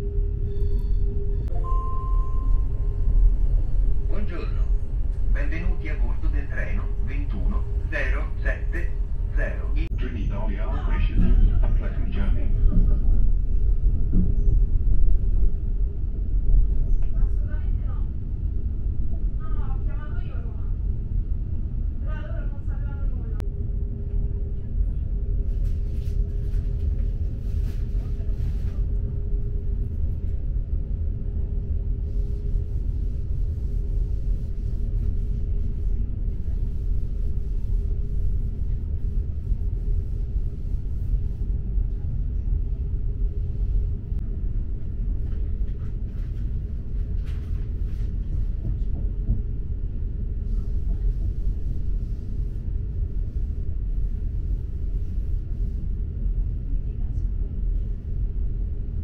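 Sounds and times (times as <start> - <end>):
mid-pitched hum: 0.0 - 59.0
train rumbling in motion: 0.0 - 59.0.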